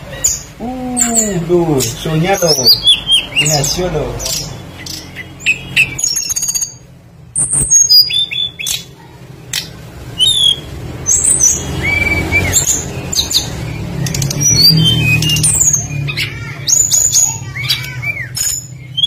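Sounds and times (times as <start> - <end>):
small songbirds chirping: 0.0 - 19.0.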